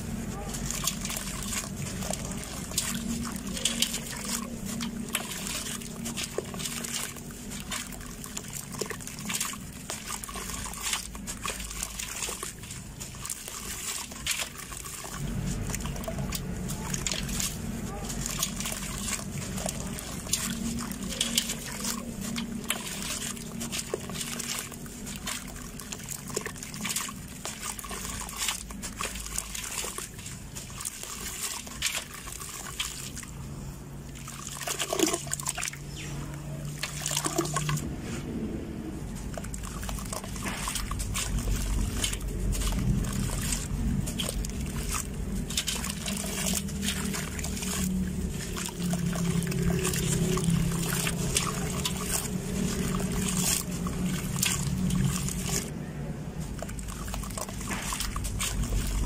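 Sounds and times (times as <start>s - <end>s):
sand trickling into water: 0.0s - 59.0s.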